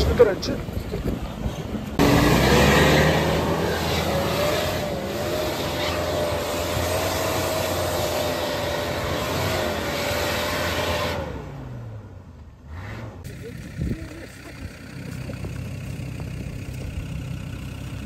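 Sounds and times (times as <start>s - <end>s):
engine working hard under load: 0.0s - 18.0s.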